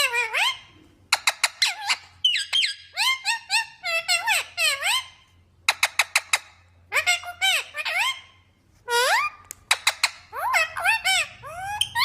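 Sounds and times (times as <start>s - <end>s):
parrot chirps and whistles: 0.0s - 12.0s.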